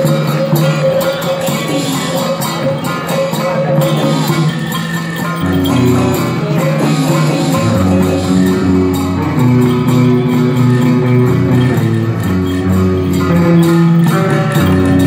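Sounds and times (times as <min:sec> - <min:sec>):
loud instrumental music: 0:00.0 - 0:15.0.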